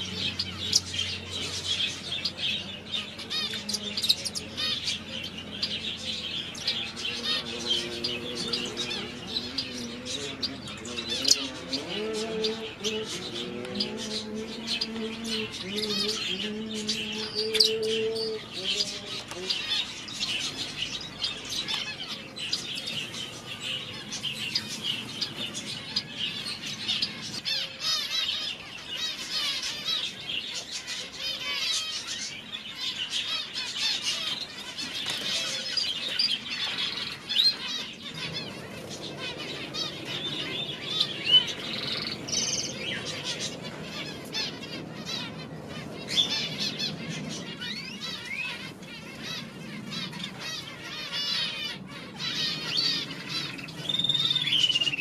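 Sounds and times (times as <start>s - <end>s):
low steady background noise: 0.0s - 55.0s
small birds chirping: 0.0s - 55.0s.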